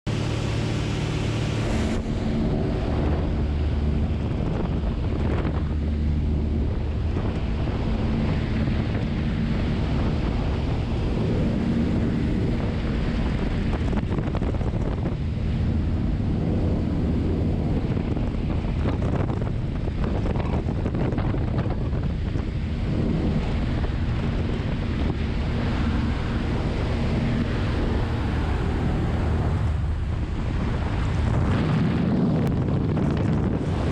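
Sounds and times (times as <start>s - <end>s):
propeller plane engine droning: 0.0s - 33.9s
wind on microphone: 0.1s - 33.9s.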